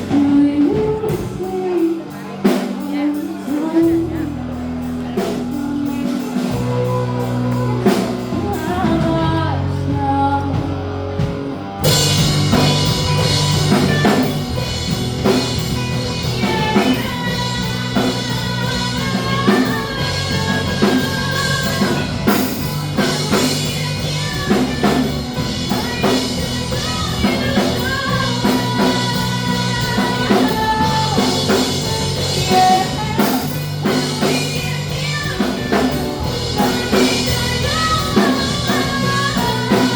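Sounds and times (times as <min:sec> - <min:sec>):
lead singer singing: 0:00.0 - 0:39.9
rock band playing: 0:00.0 - 0:39.9.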